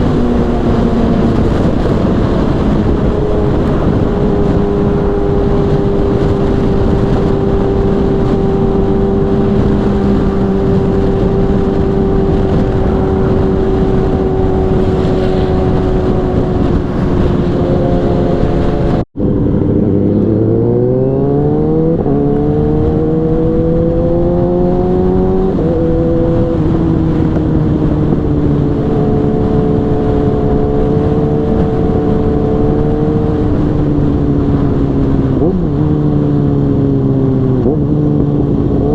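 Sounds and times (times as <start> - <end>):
motorcycle engine at high revs: 0.0 - 38.9
wind rush: 0.0 - 38.9.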